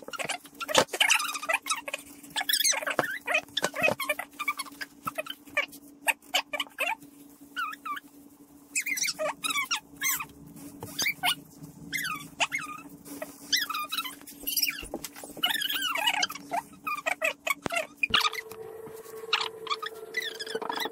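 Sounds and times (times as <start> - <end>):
rubber gloves squeaking: 0.0 - 20.9
steady low hum: 0.0 - 20.9.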